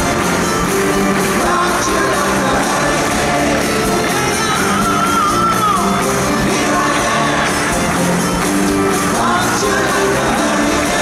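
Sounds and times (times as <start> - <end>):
acoustic guitars: 0.0 - 11.0
string section: 0.0 - 11.0
people singing: 1.0 - 11.0.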